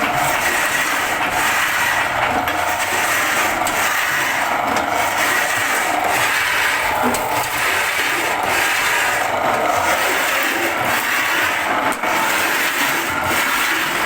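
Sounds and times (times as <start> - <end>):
wood-shaving machine scraping: 0.0 - 14.0.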